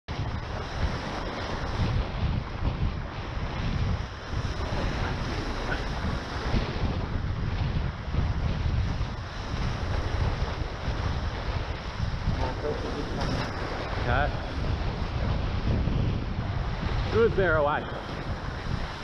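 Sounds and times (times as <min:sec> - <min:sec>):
water rushing past hulls: 0:00.1 - 0:19.0
wind buffeting microphone: 0:00.1 - 0:19.0.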